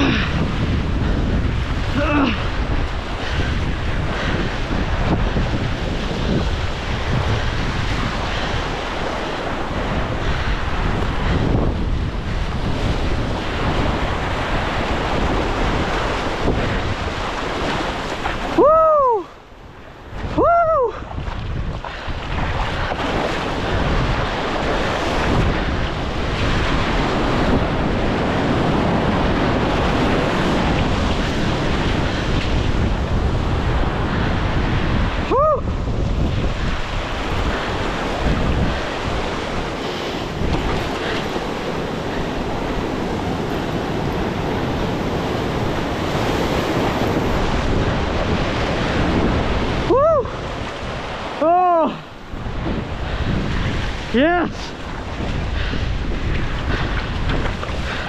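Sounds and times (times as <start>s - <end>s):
surf breaking over rocks: 0.0s - 19.2s, 19.8s - 58.0s
wind buffeting microphone: 0.0s - 58.0s.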